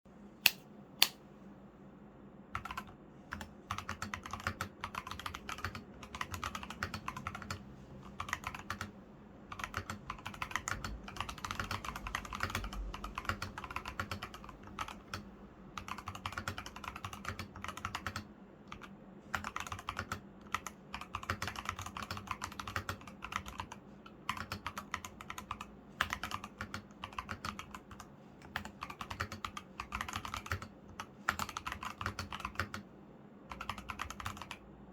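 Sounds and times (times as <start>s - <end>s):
mechanical keyboard typing: 2.5s - 8.9s, 9.5s - 32.9s, 33.5s - 34.6s.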